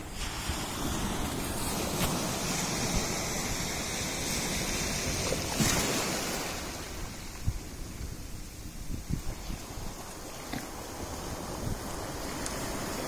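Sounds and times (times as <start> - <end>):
surf washing through rocks: 0.0 - 13.0.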